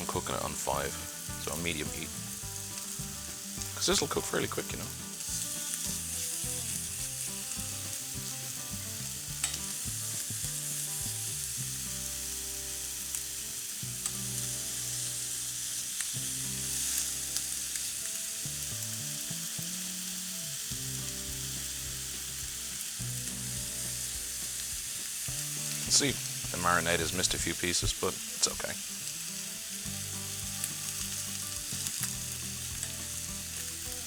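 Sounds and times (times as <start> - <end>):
chicken sizzling in a frying pan: 0.0 - 34.0.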